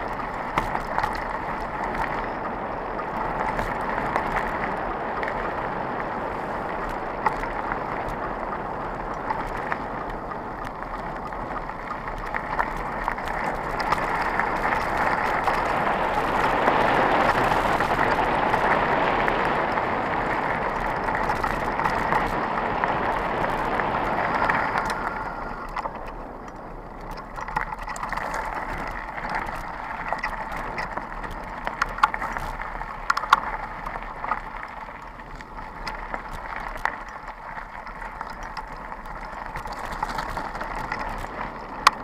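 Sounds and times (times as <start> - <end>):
bike rattling and knocking: 0.0 - 42.0
bike tyres rushing over dirt: 0.0 - 42.0.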